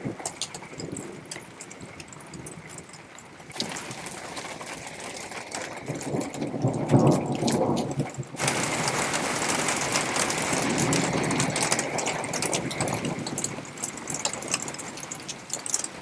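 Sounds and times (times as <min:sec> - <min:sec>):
rain falling: 0:00.0 - 0:16.0
raindrop taps: 0:00.2 - 0:16.0.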